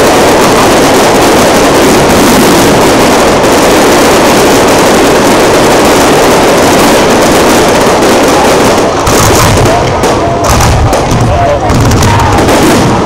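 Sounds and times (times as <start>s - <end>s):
fireworks barrage: 0.0s - 13.0s.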